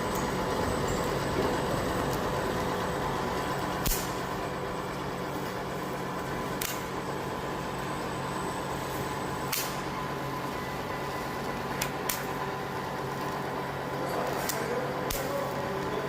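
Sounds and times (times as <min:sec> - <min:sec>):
welding machine humming: 0:00.0 - 0:16.0.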